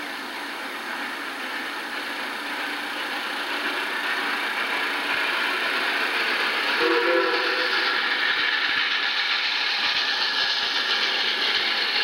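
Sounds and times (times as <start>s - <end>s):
steam locomotive rushing: 0.0s - 12.0s.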